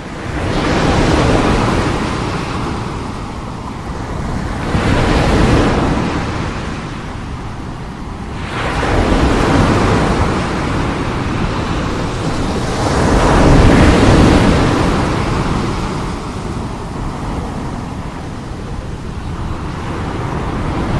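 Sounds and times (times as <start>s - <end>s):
sea waves breaking: 0.0s - 20.9s.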